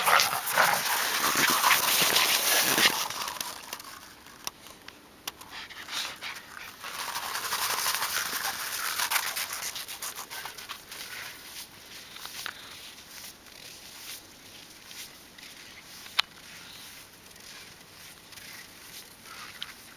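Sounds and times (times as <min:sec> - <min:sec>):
footsteps crunching in dry snow: 0:00.0 - 0:04.4, 0:05.5 - 0:19.9.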